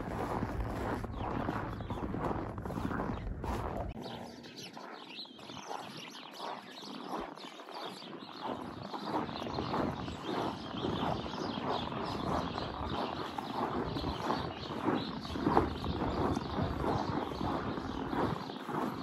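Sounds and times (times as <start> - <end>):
footsteps on packed snow: 0.0 - 19.0.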